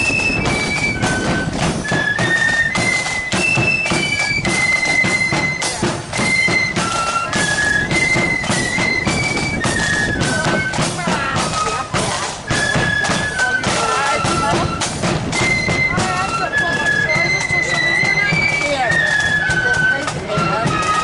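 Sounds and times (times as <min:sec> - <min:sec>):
drums beating march rhythm: 0:00.0 - 0:21.0
flute band playing a march: 0:00.0 - 0:21.0.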